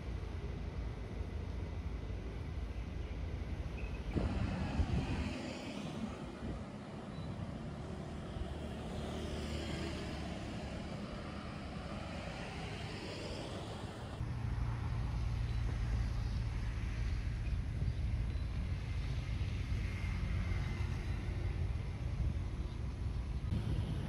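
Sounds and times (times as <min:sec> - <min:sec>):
low rumble of traffic: 0:00.0 - 0:24.0
cars passing by: 0:04.1 - 0:24.0.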